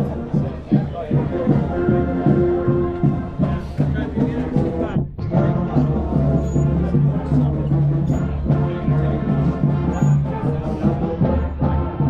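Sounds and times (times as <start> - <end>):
music with strong bass line: 0.0 - 12.0.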